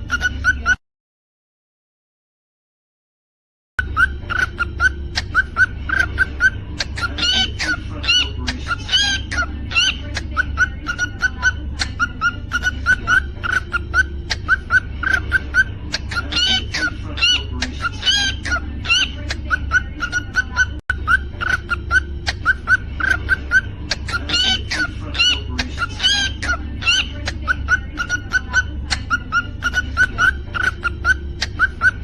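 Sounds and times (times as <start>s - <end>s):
cockatiel chirping: 0.0s - 0.8s, 3.8s - 32.0s
low steady hum: 3.8s - 32.0s.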